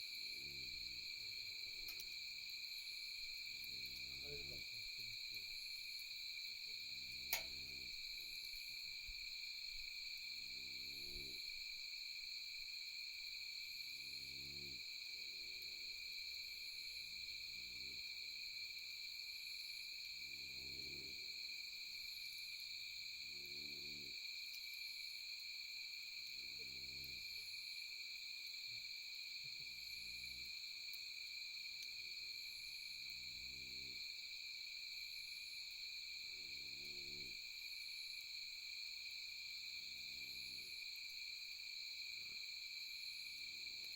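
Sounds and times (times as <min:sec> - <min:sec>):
insects trilling: 0:00.0 - 0:43.9.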